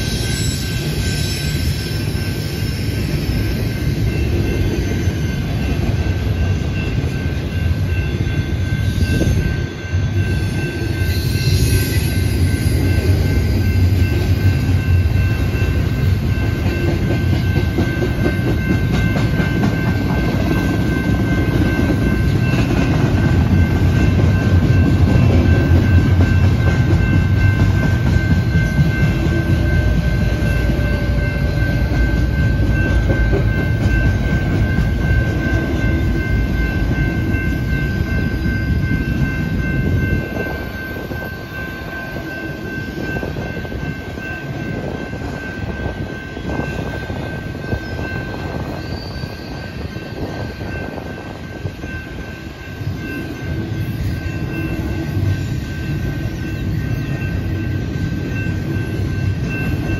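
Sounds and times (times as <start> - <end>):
crossing bell ringing: 0.0 - 59.9
train wheels clattering on rail: 0.0 - 59.9.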